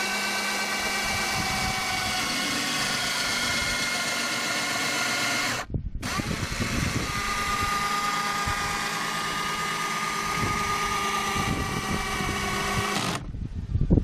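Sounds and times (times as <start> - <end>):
cordless drill whining: 0.0 - 13.3.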